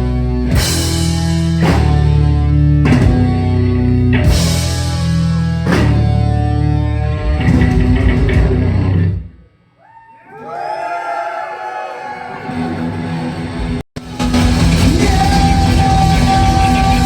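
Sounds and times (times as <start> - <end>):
heavy metal band playing live: 0.0 - 9.2, 12.3 - 17.0.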